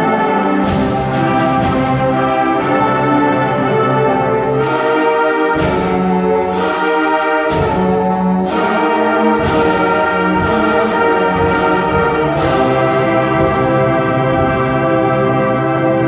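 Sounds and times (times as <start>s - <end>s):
concert band brass chords: 0.0s - 16.0s
percussion strikes: 0.0s - 16.0s.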